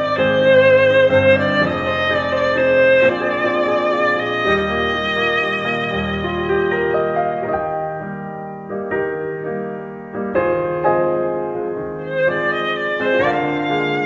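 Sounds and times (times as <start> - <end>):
piano music over loudspeakers: 0.0 - 14.0.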